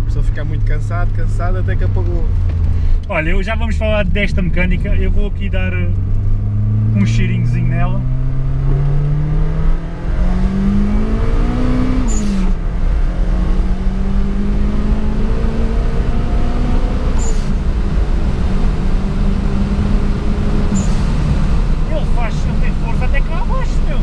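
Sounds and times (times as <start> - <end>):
turbocharged car engine at full throttle: 0.0 - 24.0.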